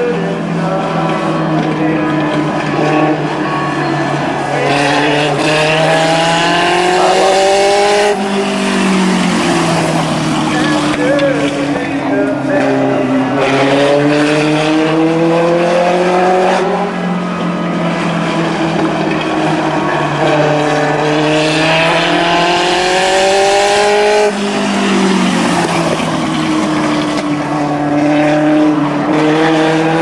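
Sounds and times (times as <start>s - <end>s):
race car engine accelerating: 0.0s - 30.0s.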